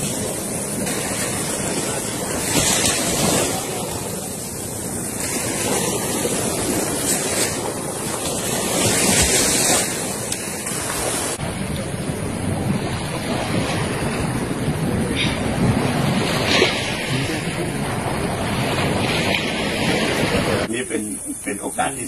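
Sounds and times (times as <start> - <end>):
wind buffeting microphone: 0.0 - 20.7
surf washing on beach: 0.0 - 22.0.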